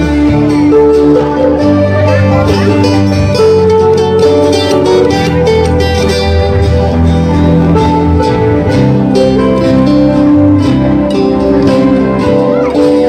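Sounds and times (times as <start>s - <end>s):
acoustic guitars strumming: 0.0s - 13.0s
electric bass guitar: 0.0s - 13.0s.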